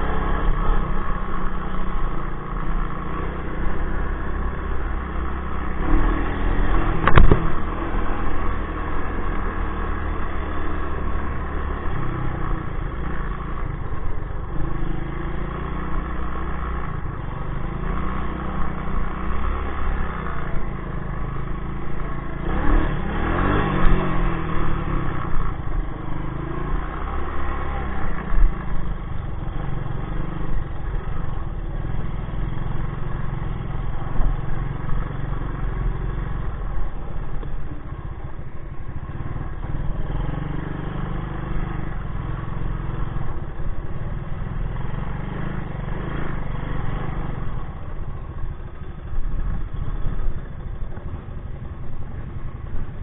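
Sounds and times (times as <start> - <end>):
atv engine revving: 0.0 - 38.2, 39.0 - 53.0.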